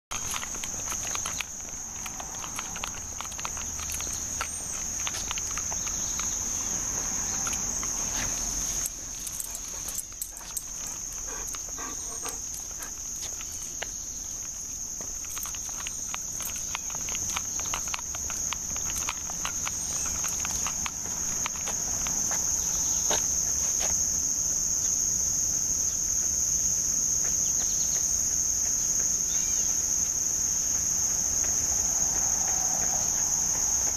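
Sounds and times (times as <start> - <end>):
crickets chirping: 0.1 - 33.9
light footsteps on pavement: 0.1 - 33.9.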